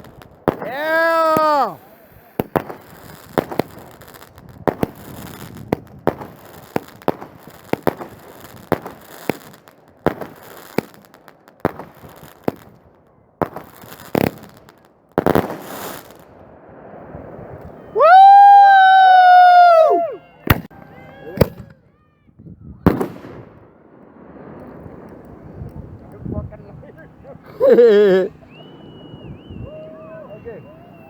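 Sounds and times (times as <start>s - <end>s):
fireworks banging: 0.0s - 19.8s, 20.4s - 21.8s, 22.8s - 31.0s
fireworks crackling: 0.0s - 21.8s, 22.8s - 31.0s.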